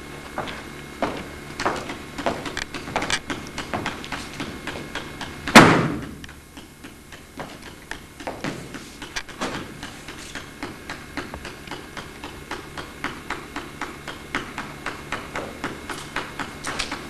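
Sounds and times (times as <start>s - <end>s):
rapid sharp tapping: 0.4s - 17.0s.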